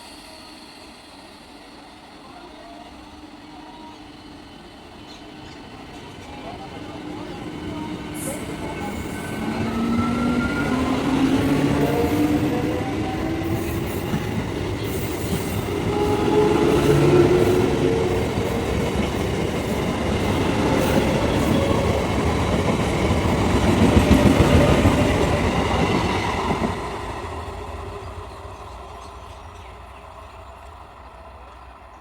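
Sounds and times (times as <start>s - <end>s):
train wheels clattering on rails: 5.0s - 30.9s.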